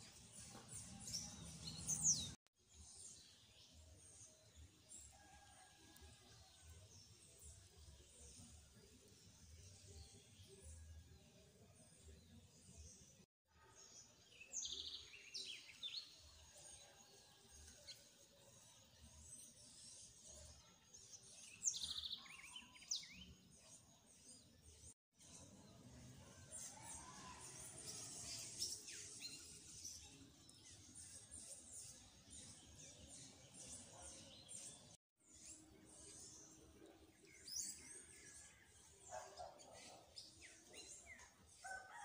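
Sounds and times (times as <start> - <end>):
small birds chirping: 0.0 - 5.8, 14.0 - 42.0.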